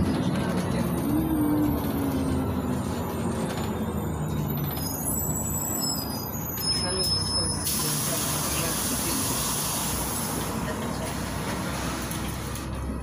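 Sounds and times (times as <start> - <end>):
bus engine running: 0.0 - 13.0
road and tyre noise: 0.0 - 13.0.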